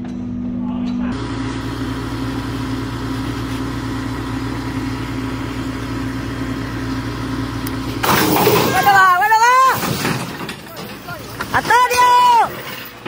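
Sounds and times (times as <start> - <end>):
crane engine humming: 1.1 - 13.0.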